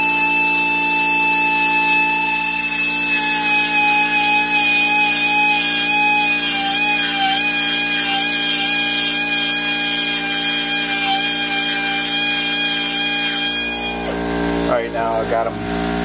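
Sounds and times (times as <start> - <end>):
rotary grinder whining on metal: 0.0 - 14.4.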